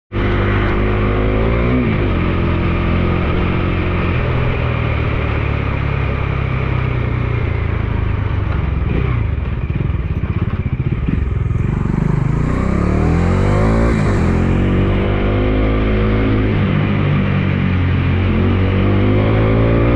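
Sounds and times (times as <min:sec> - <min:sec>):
motorcycle engine accelerating: 0:00.1 - 0:19.9.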